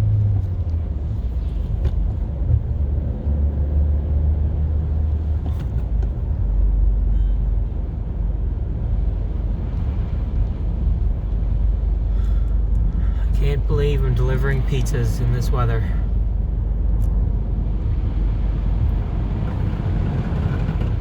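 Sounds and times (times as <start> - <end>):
car engine: 0.0 - 21.0
road rumble: 0.0 - 21.0.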